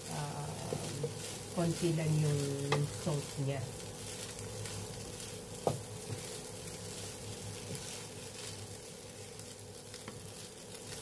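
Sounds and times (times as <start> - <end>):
rice sizzling in a pan: 0.0 - 11.0
wooden spatula stirring: 0.0 - 11.0.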